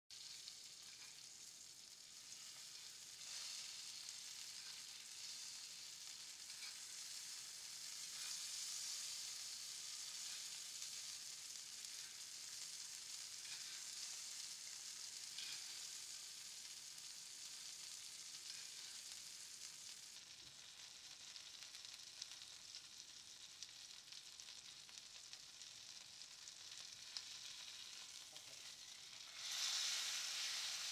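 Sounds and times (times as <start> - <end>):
steak sizzling in a pan: 0.1 - 30.9.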